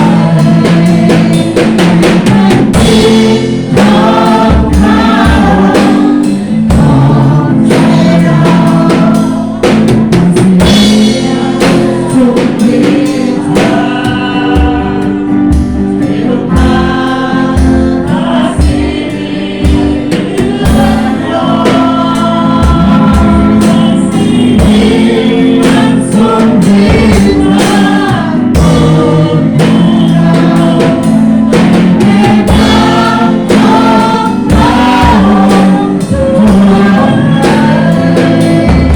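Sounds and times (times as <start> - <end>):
band playing: 0.0 - 38.9
bass drum beat: 0.0 - 38.9
group singing worship song: 0.0 - 38.9.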